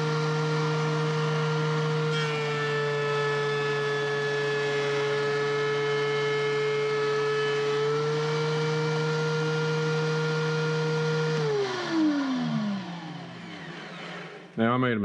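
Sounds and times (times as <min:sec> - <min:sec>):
thickness planer motor whining: 0:00.0 - 0:14.6.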